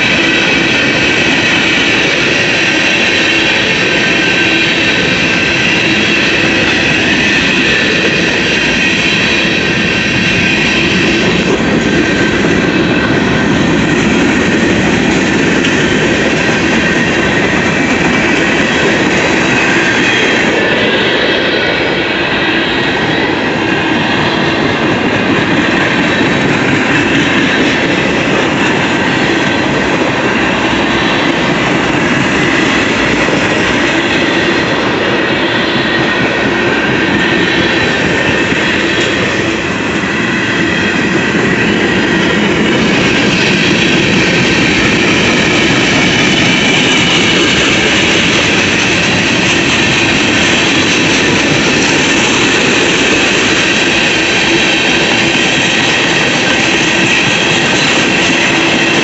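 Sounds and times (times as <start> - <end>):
steel wheels rolling on rail: 0.0 - 59.0.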